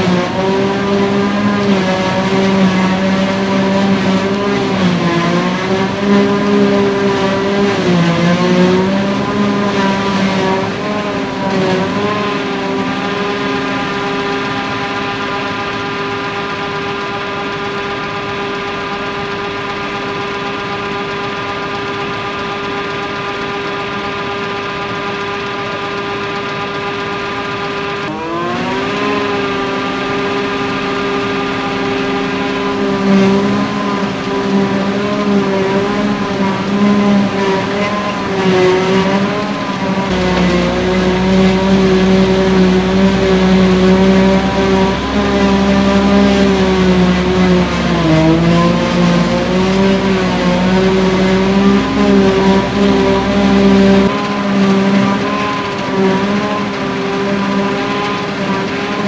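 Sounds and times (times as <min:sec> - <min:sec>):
deeper hum: 0:00.0 - 0:59.0
forage harvester high whine: 0:00.0 - 0:59.0.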